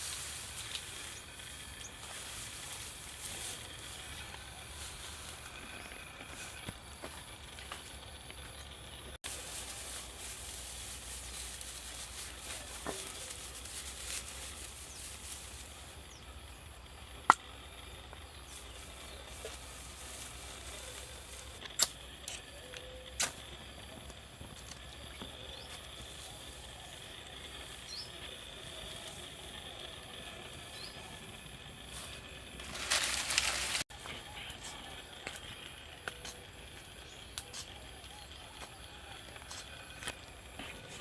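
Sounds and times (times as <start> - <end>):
outdoor ambience hiss: 0.0 - 41.0.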